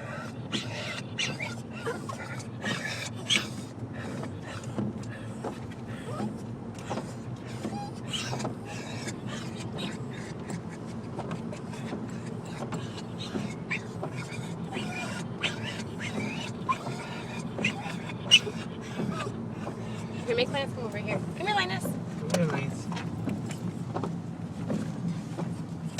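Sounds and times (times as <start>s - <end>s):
dogs whining and crying: 0.0s - 21.4s
car road noise: 0.0s - 25.9s.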